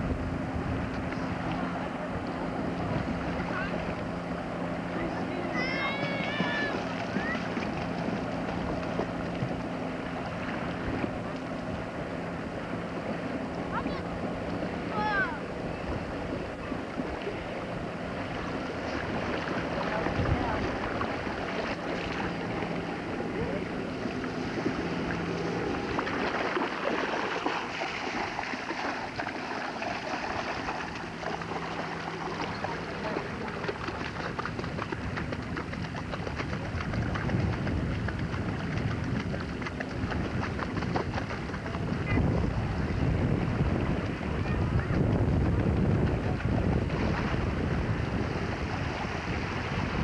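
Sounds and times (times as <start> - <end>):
wind on microphone: 0.0 - 29.4, 30.1 - 50.0
distant speedboat engine drone: 0.0 - 50.0
small waves lapping: 0.0 - 50.0.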